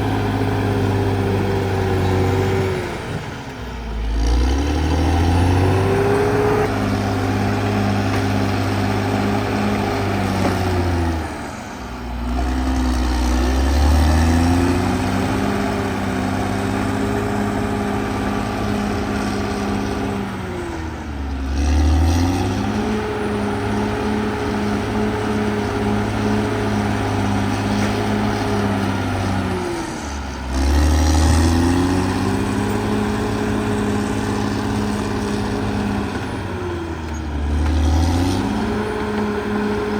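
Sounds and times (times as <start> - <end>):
bulldozer diesel engine revving: 0.0 - 39.9.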